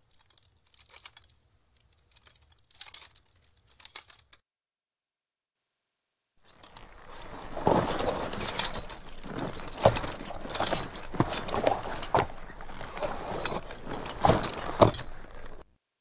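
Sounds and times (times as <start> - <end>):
metal fittings jangling: 0.0 - 4.4, 6.5 - 15.6.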